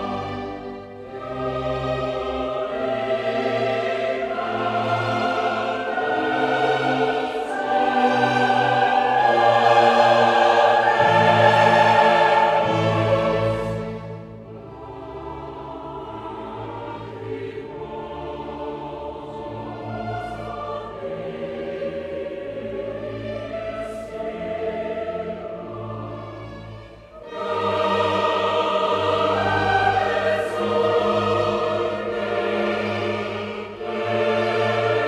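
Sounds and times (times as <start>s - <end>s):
choral operatic singing: 0.0s - 35.0s
orchestral accompaniment: 0.0s - 35.0s.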